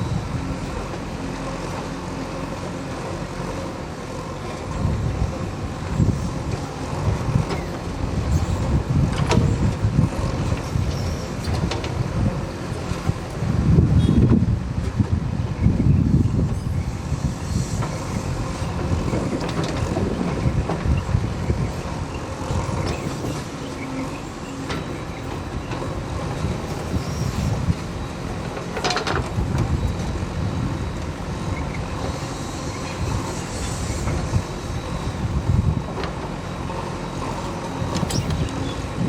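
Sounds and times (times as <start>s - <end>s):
diesel engine rumbling: 0.0s - 39.0s.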